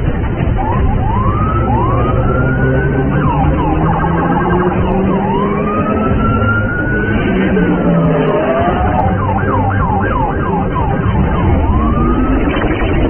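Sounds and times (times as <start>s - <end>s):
low rumble of vehicles: 0.0s - 13.0s
sirens wailing: 0.0s - 13.0s.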